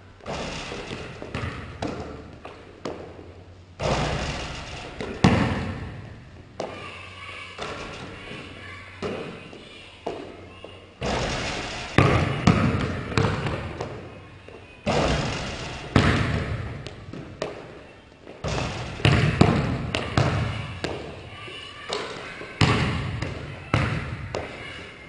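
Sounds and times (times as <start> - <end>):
basketballs bouncing on gym floor: 0.2 - 6.9, 11.0 - 24.8.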